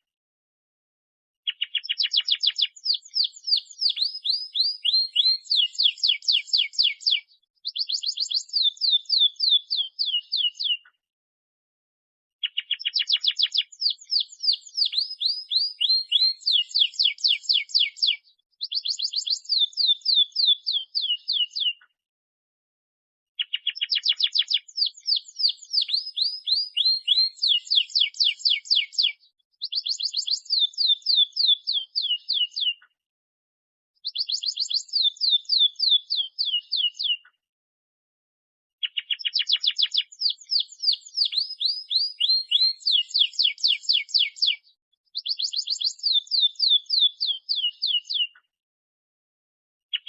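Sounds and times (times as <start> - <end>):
canary singing fast trills: 1.4 - 10.9, 12.4 - 21.8, 23.4 - 32.9, 34.0 - 37.4, 38.8 - 48.5.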